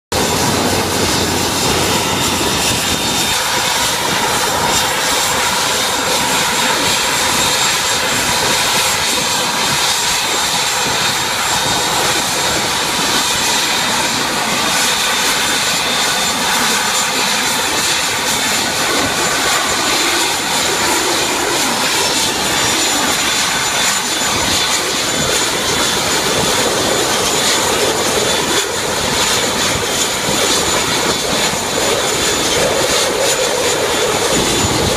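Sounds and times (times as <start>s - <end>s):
turboprop engine whine: 0.1s - 34.9s.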